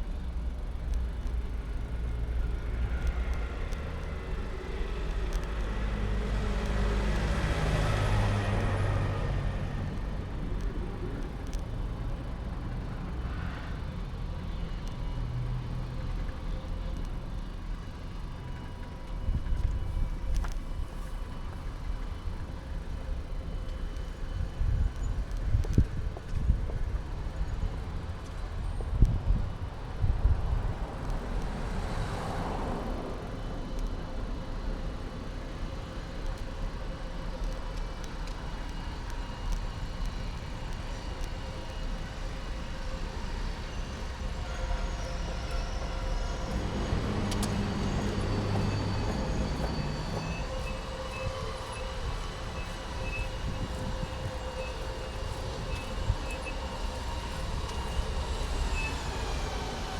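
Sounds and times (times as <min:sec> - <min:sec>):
engine humming nearby: 0:00.0 - 0:59.9
street traffic: 0:00.0 - 0:59.9.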